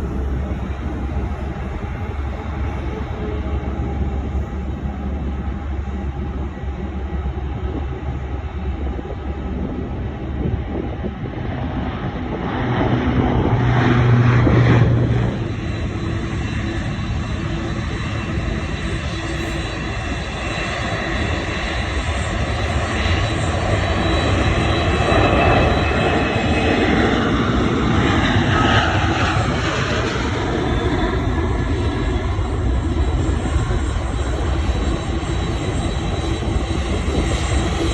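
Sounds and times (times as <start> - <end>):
jet engines running: 0.0 - 37.9.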